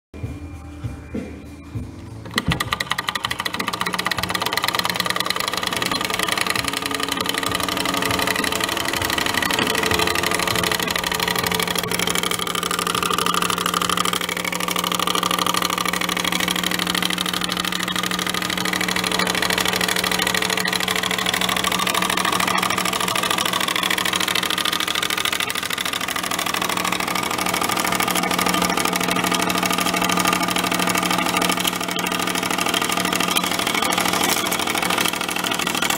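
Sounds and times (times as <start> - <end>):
engine humming steadily: 0.2 - 35.9.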